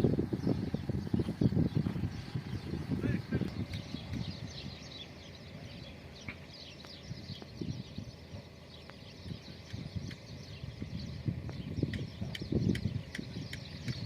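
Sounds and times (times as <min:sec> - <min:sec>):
low uneven rumble: 0:00.0 - 0:14.0
small birds chirping: 0:00.0 - 0:14.0.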